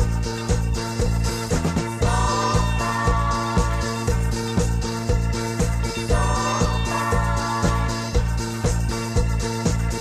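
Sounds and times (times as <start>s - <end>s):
drums and bass beat: 0.0s - 10.0s
live band playing dance music: 0.0s - 10.0s.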